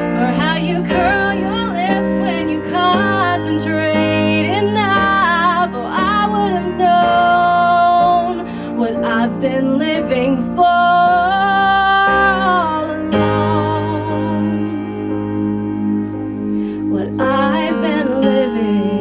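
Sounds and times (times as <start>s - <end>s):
woman singing: 0.0s - 16.0s, 16.9s - 19.0s
instrumental accompaniment: 0.0s - 19.0s.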